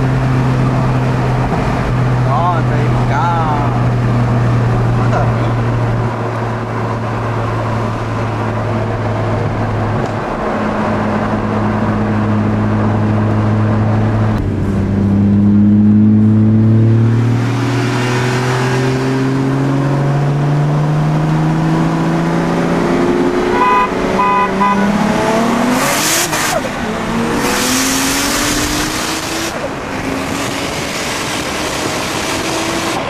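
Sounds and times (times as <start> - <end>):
car engine at full throttle: 0.0 - 33.0.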